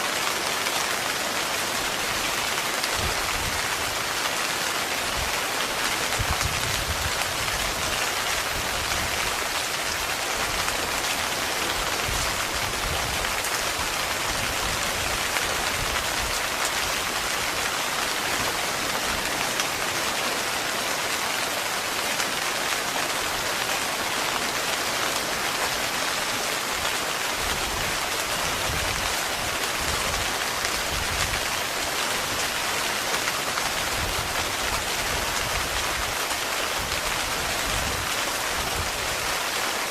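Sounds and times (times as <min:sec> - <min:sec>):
heavy rain drumming on tent: 0:00.0 - 0:39.9.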